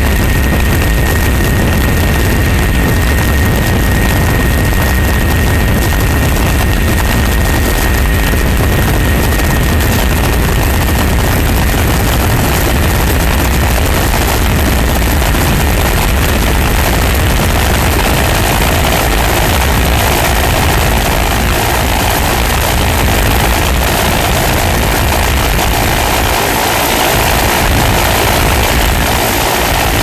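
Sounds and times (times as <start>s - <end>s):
engine rumbling loudly: 0.0s - 30.0s.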